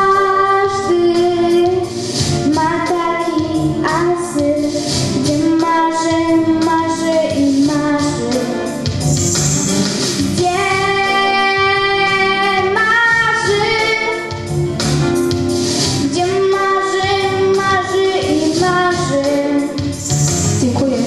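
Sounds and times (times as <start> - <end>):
girl singing into microphone: 0.0 - 9.0, 10.2 - 14.5, 15.9 - 20.0, 20.6 - 21.0
backing music with light percussion: 0.0 - 21.0.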